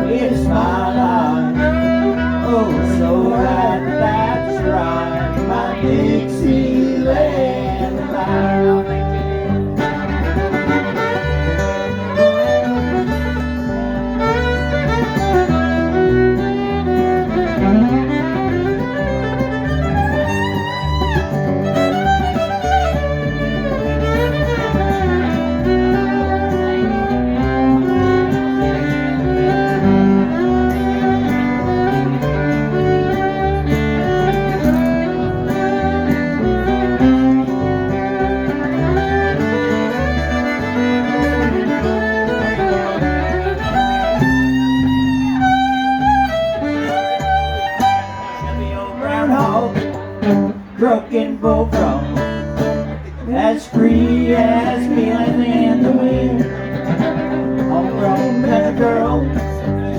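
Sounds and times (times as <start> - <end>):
country band playing: 0.0 - 59.9
fiddle with sliding notes: 0.0 - 59.9.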